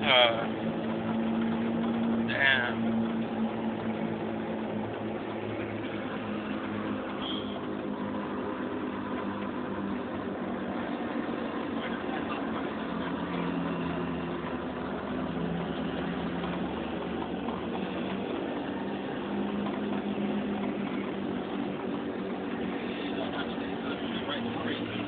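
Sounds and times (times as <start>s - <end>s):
truck engine drone: 0.0s - 25.0s.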